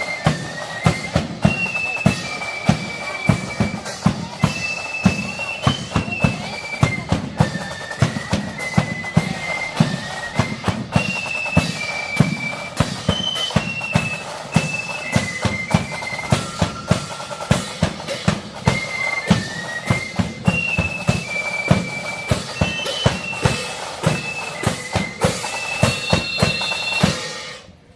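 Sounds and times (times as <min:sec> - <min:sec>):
bass and snare drum beats: 0:00.0 - 0:27.9
marching flute band: 0:00.0 - 0:27.9.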